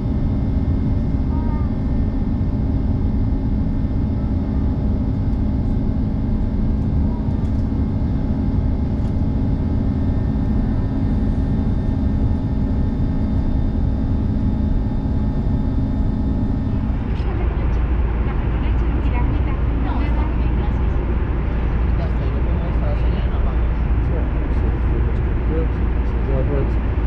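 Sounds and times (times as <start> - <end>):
airliner cabin drone: 0.0 - 27.0
steady hums: 0.0 - 27.0.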